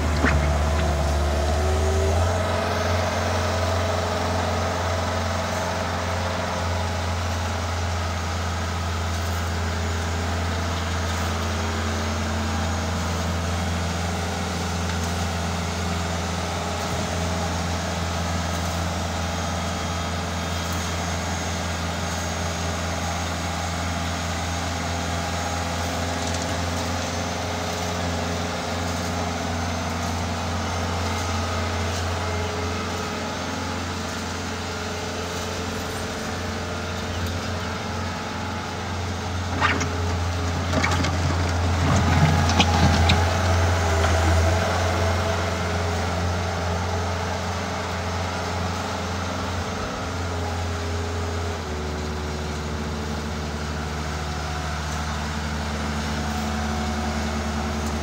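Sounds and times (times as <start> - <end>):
loader diesel engine running: 0.0 - 58.0.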